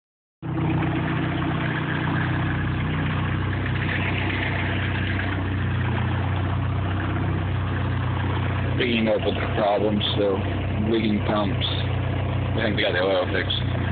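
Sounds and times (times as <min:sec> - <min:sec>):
car engine idling: 0:00.4 - 0:13.9.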